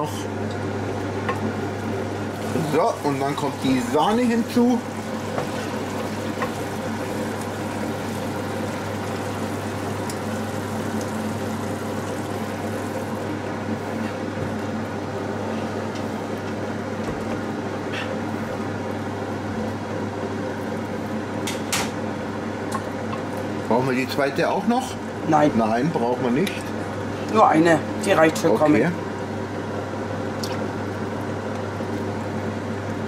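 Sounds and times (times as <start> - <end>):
air fryer fan humming: 0.0 - 33.0.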